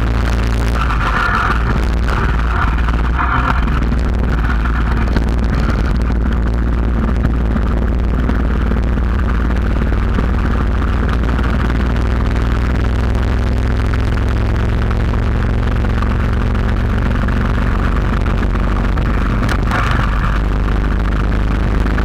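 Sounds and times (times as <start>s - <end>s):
small engine running: 0.0s - 22.0s
wind and road noise: 0.0s - 22.0s.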